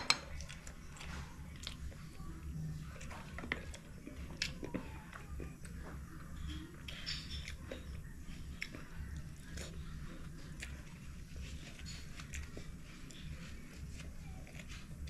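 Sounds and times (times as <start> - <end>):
low steady hum: 0.0 - 15.0
person chewing: 0.2 - 15.0.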